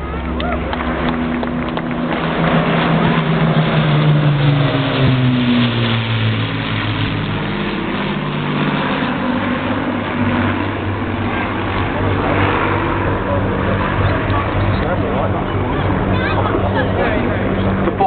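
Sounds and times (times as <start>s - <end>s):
propeller aircraft flying past: 0.0s - 18.0s.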